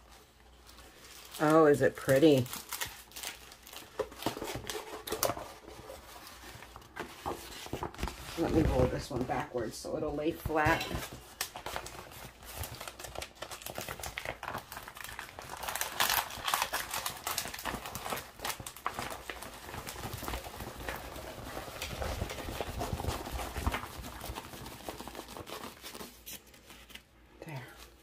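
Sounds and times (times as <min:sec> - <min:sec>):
plastic film rustling and crinkling: 0:00.0 - 0:28.0.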